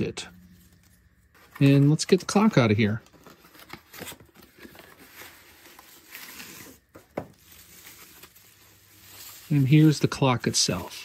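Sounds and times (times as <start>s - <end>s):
cardboard and bubble wrap rustling: 0.0s - 11.0s.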